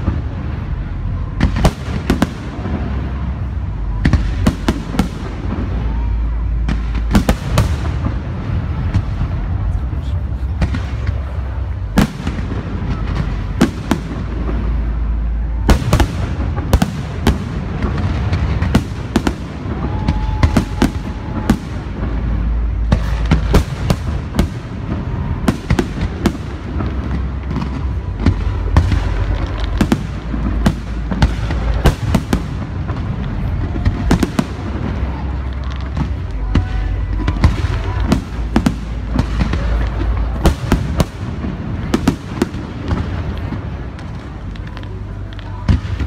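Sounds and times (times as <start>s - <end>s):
fireworks bursting: 0.0s - 46.0s
low rumble: 0.0s - 46.0s.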